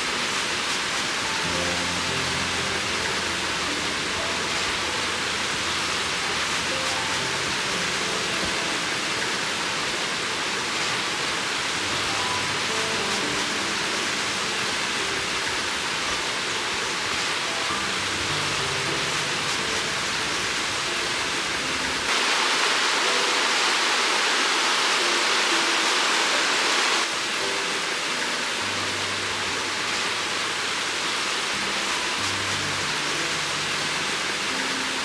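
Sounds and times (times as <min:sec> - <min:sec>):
soft background music: 0:00.0 - 0:35.0
steady rushing noise: 0:00.0 - 0:35.0.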